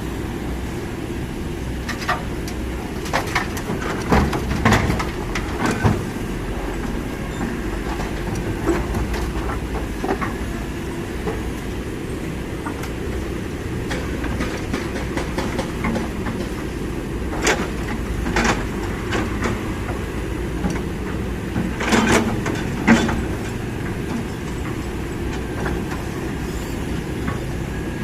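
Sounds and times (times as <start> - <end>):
diesel engine rumble: 0.0 - 28.0.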